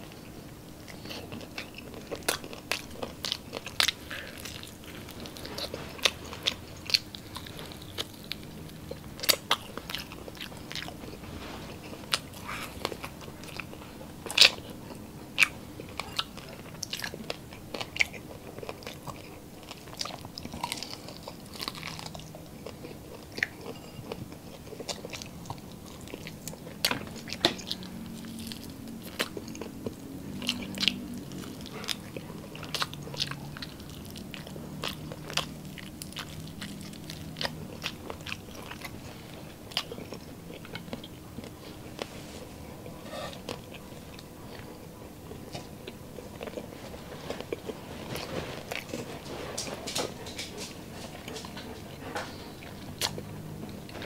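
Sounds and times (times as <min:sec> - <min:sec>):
person chewing meat: 0:00.0 - 0:54.0.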